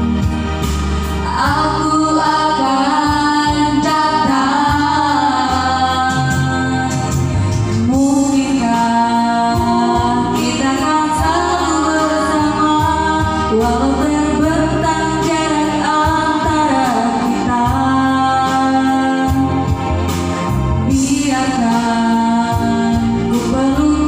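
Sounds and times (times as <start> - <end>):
instrumental backing: 0.0 - 24.0
person singing: 1.2 - 24.0.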